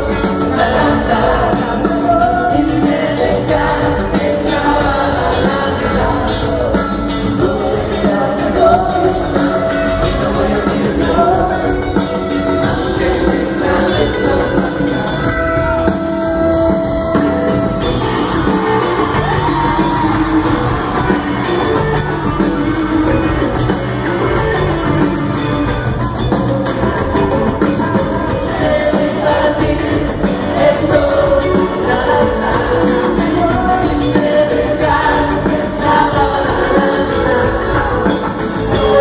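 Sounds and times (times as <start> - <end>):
live rock band with singer: 0.0 - 39.0.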